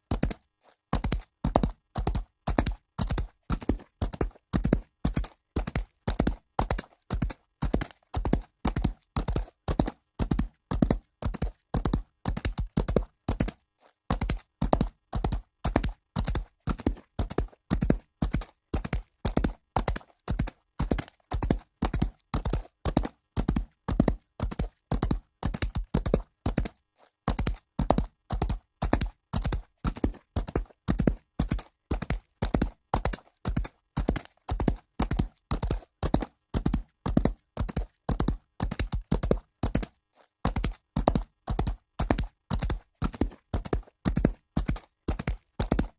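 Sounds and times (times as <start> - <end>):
horse hooves galloping on dirt: 0.0 - 45.9.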